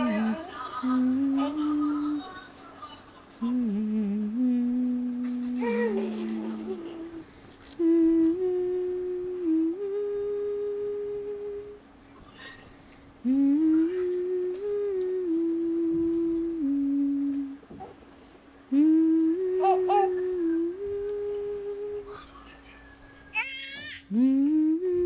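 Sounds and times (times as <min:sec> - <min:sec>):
person humming a slow tune: 0:00.0 - 0:02.2, 0:03.4 - 0:11.8, 0:13.2 - 0:18.0, 0:18.7 - 0:25.0.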